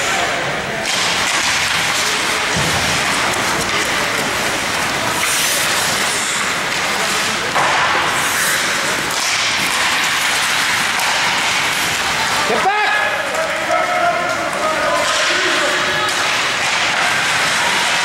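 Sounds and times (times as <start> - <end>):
murmur of spectators: 0.0 - 18.0
skates scraping on ice: 0.9 - 18.0.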